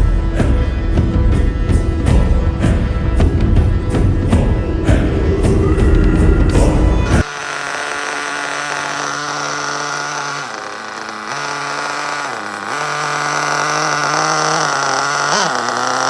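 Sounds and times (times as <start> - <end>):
nitro engine of rc buggy running: 0.0 - 16.0.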